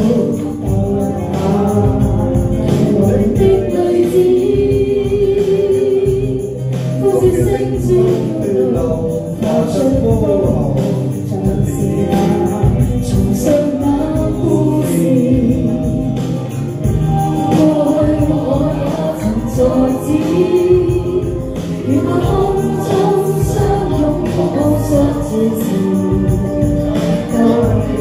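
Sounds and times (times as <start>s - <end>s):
karaoke backing track: 0.0s - 28.0s
woman singing into microphone: 0.0s - 28.0s.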